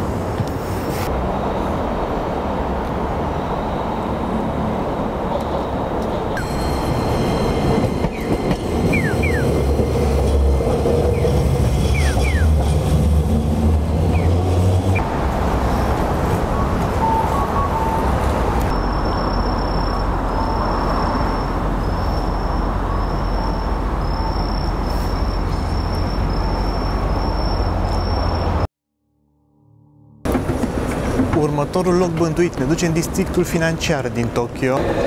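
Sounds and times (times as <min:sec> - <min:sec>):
city traffic hum: 0:00.0 - 0:28.7, 0:30.2 - 0:35.0
tram passing with deep rumble: 0:00.0 - 0:28.7, 0:30.2 - 0:35.0.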